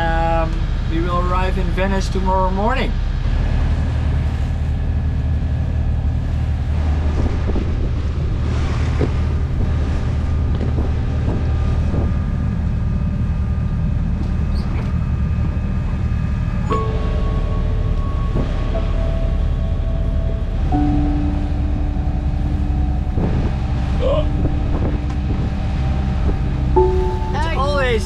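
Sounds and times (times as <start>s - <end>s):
wind buffeting microphone: 0.0s - 28.0s
yacht hum and rush: 0.0s - 28.0s.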